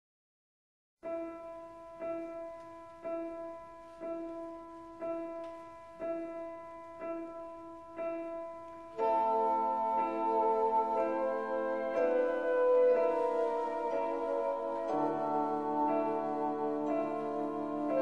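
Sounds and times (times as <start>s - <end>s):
soft piano chords: 1.0s - 18.0s.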